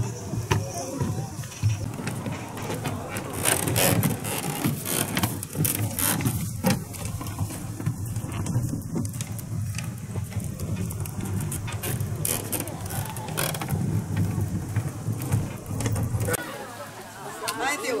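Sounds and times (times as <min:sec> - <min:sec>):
footsteps on plank deck: 0:00.0 - 0:16.4
steady low rumble: 0:01.2 - 0:16.4.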